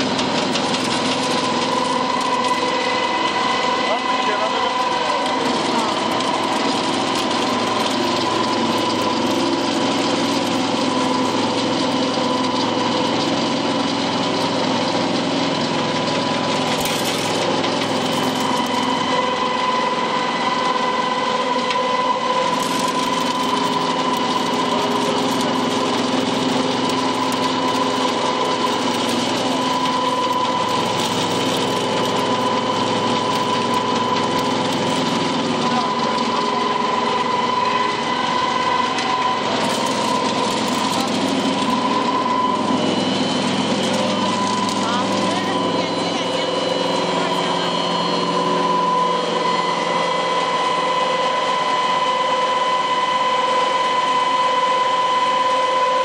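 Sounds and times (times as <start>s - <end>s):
pellet mill running: 0.0s - 56.0s.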